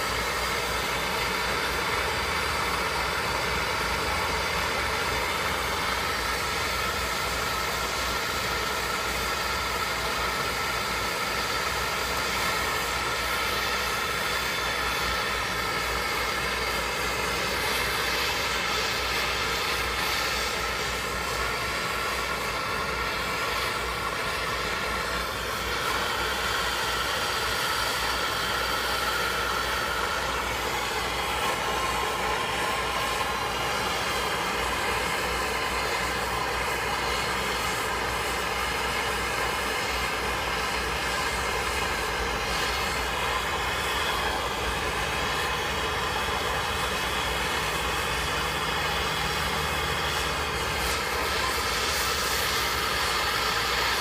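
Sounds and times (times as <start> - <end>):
gas torch hissing: 0.0 - 54.0.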